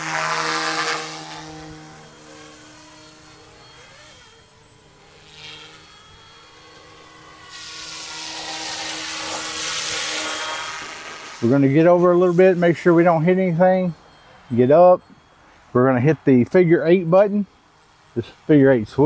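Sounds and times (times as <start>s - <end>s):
model helicopter rotor hum and whine: 0.0s - 19.0s.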